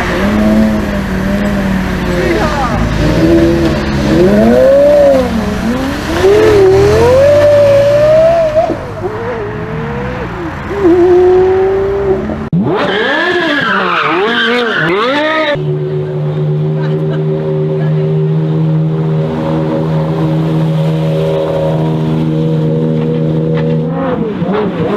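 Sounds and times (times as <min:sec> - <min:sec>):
sports car engine revving: 0:00.0 - 0:24.9.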